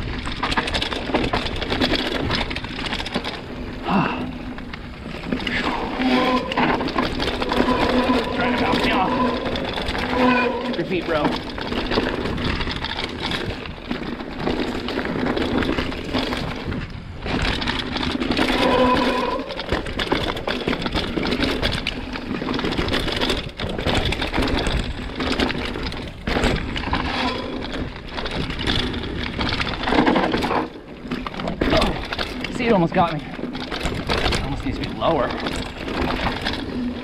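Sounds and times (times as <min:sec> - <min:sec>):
bike rattling and knocking: 0:00.0 - 0:37.0.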